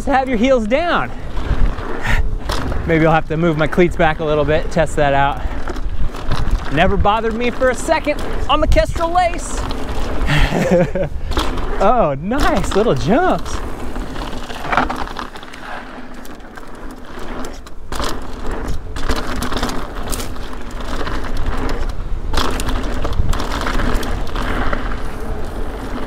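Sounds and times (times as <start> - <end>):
bike rattling: 0.0 - 26.0
tyres crunching over dirt: 0.0 - 26.0.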